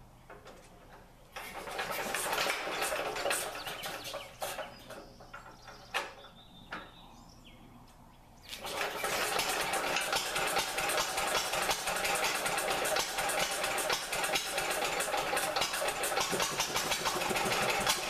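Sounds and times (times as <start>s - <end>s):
garden tractor engine running: 0.0s - 7.0s, 8.4s - 18.0s.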